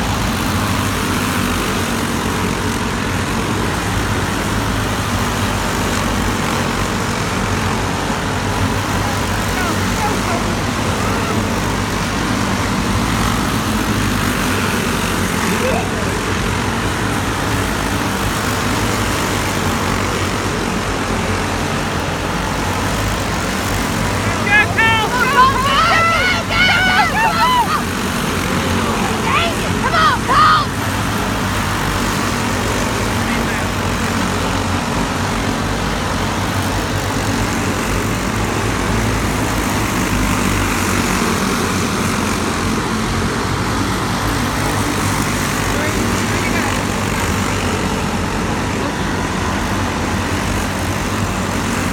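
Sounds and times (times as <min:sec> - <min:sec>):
go-kart engines droning: 0:00.0 - 0:51.9.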